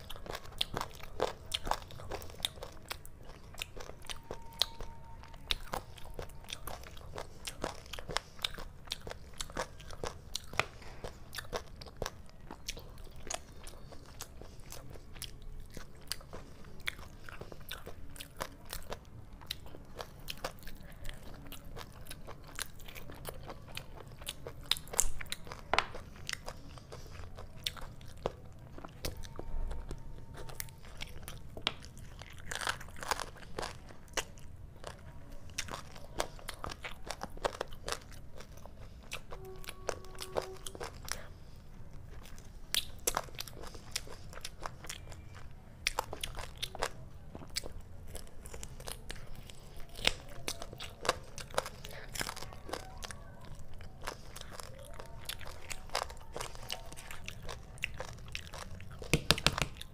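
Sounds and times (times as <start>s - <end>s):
chewing food: 0.0s - 59.9s.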